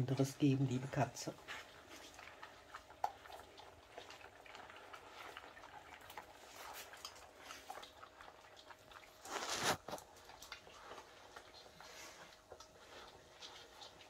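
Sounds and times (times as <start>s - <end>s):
animals crunching dry kibble: 0.0s - 14.0s.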